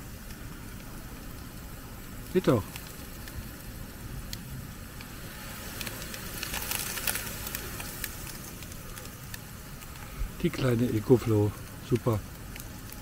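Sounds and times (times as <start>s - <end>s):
low background rumble: 0.0s - 13.0s
sausages sizzling on a grill: 0.0s - 13.0s.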